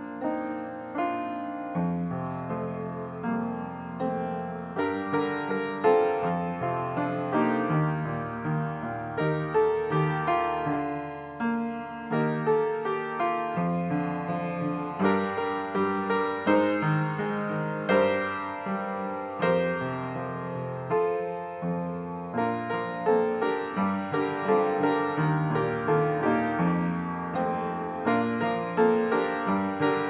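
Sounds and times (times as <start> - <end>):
slow piano piece: 0.0 - 30.0.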